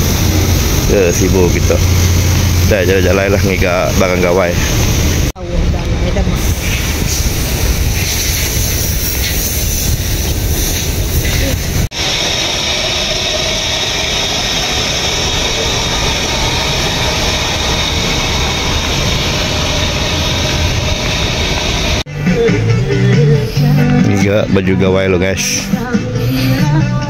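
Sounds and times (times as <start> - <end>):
heavy low rumble: 0.0 - 27.0
traffic: 0.0 - 27.0.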